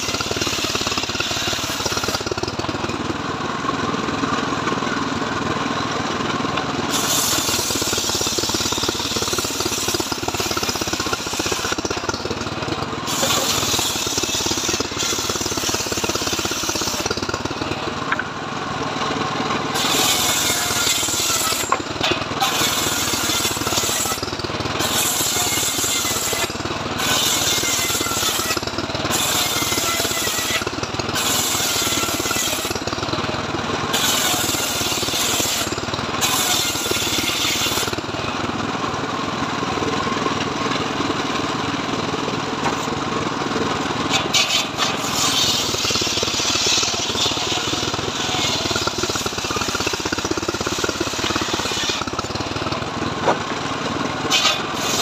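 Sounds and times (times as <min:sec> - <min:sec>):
circular saw cutting wood: 0:00.0 - 0:39.0, 0:40.2 - 0:55.0.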